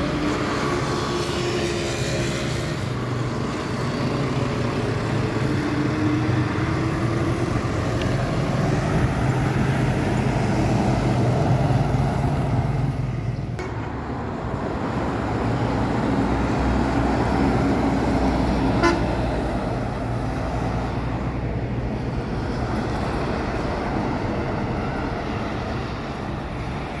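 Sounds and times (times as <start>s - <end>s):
highway traffic hum: 0.0s - 27.0s.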